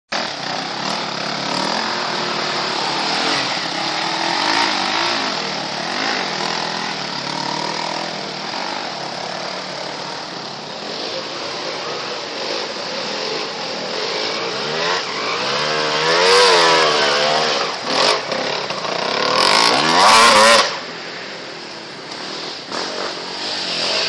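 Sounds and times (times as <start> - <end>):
motorcycle engines revving: 0.1 - 24.0.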